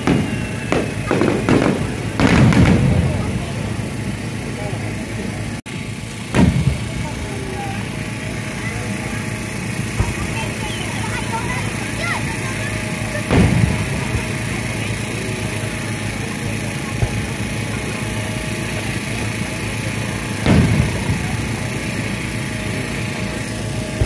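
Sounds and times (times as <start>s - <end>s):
firework bursts booming: 0.0s - 24.0s
steady background noise: 0.0s - 24.0s.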